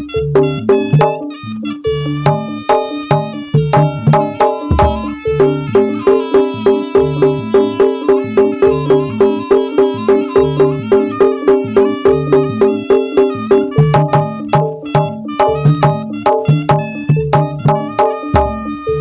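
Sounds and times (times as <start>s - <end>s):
tuned percussion and drums playing: 0.0s - 19.0s.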